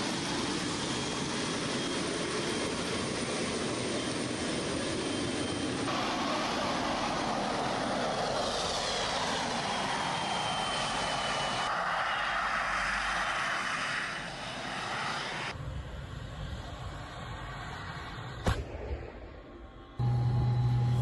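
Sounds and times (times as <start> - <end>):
gas turbine engine whine: 0.0 - 21.0.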